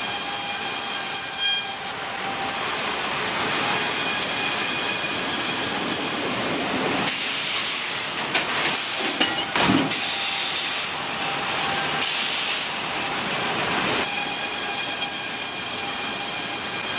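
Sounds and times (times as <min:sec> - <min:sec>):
sawmill machinery rushing noise: 0:00.0 - 0:16.9.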